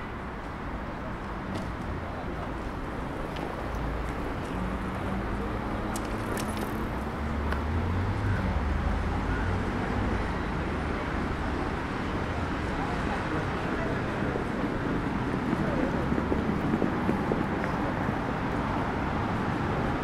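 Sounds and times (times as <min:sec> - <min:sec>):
passing vehicle engine rumble: 0:00.0 - 0:20.0
street traffic noise: 0:00.0 - 0:20.0.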